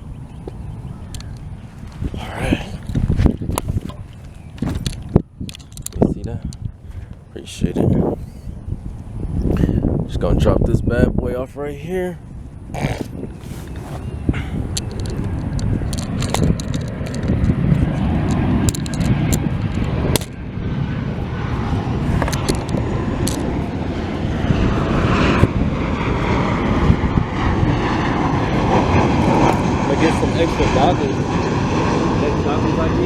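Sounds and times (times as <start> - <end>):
drone propellers buzzing: 0.0 - 10.1, 12.2 - 33.0.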